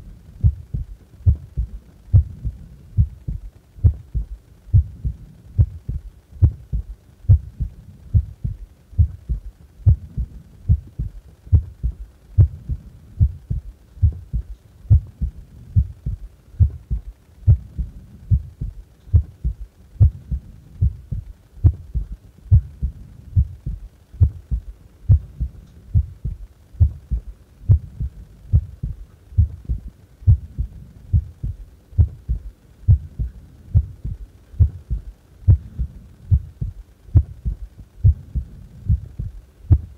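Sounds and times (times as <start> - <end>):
heart beating: 0.0 - 39.9.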